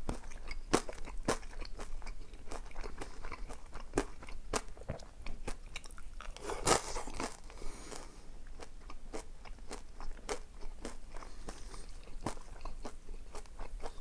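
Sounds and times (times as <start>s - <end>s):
person chewing and crunching food: 0.0s - 14.0s.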